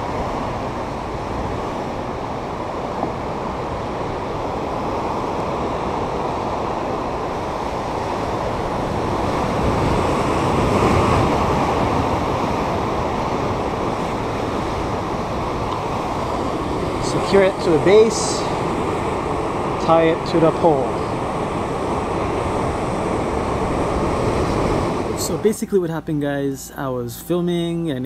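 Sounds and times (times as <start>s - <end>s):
wind on microphone: 0.0s - 25.6s
surf breaking on rocks: 0.0s - 25.9s.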